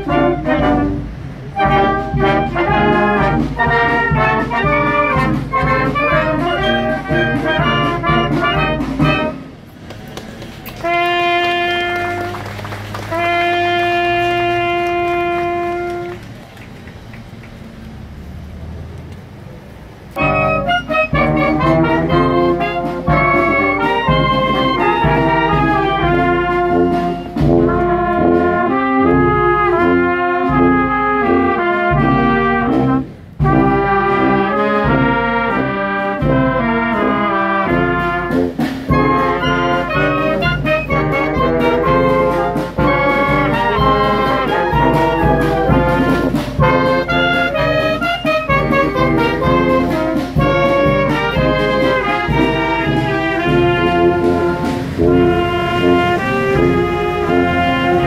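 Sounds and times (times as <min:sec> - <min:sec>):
wind band playing a tune: 0:00.0 - 0:17.6, 0:20.1 - 0:58.0.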